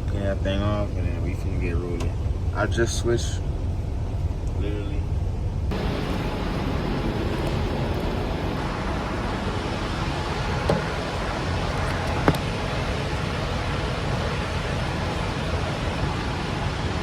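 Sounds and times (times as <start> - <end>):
vehicle rumble and road noise: 0.0 - 17.0.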